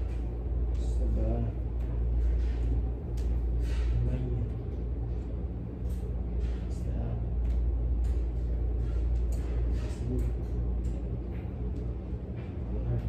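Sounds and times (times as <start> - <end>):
low hum of room noise: 0.0 - 13.0.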